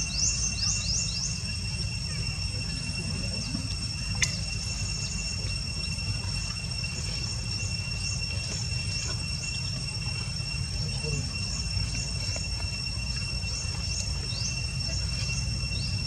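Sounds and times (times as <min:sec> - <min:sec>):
insects droning in grass: 0:00.0 - 0:16.0.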